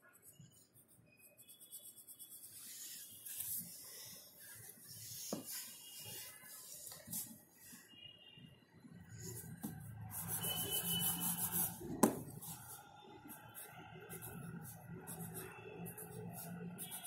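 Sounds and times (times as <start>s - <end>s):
pencil scratching on paper: 0.0s - 7.8s, 9.1s - 17.0s.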